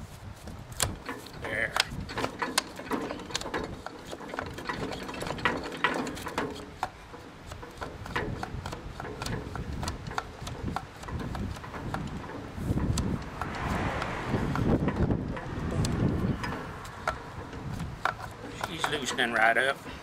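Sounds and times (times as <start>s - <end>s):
metallic clicks and rattles: 0.8s - 13.6s, 14.5s - 19.8s.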